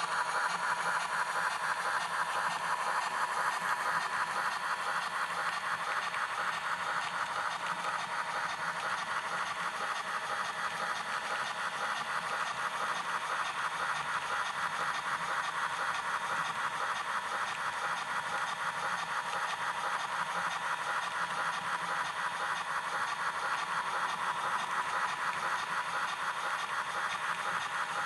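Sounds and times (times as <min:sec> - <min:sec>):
model train clicking on track: 0:00.0 - 0:28.0.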